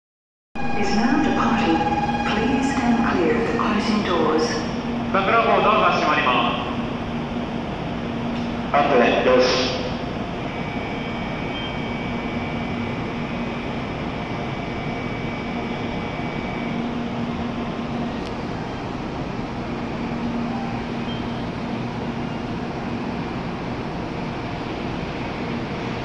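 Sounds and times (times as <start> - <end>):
thin high whine: 0.6 - 8.1, 8.8 - 23.1
train hum and fan noise: 0.6 - 26.0.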